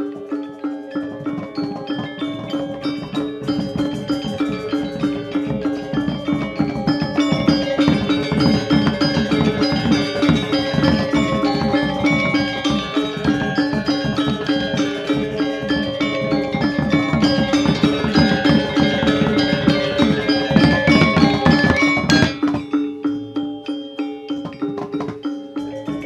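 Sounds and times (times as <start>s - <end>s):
drums: 0.0s - 26.0s
metallophones struck in quick patterns: 0.0s - 26.0s.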